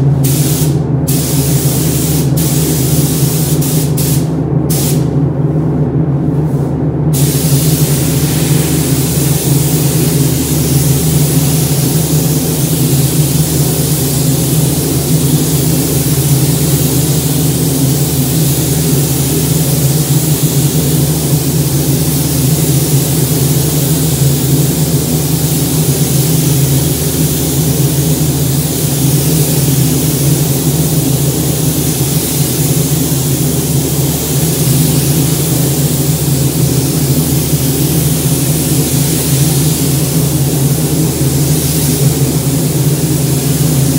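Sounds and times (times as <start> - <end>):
ventilation low hum: 0.0 - 43.9
hiss of rushing air: 0.1 - 5.2, 7.1 - 43.9.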